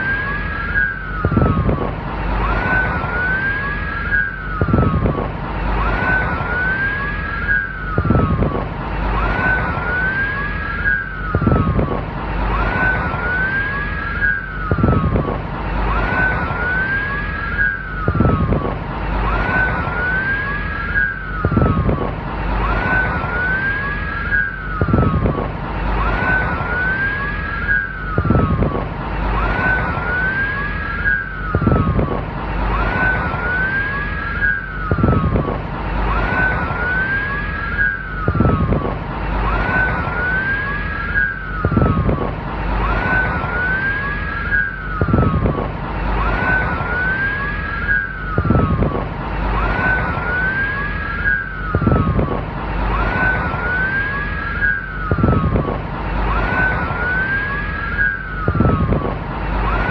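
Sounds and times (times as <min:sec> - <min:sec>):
low vehicle rumble: 0:00.0 - 0:59.9.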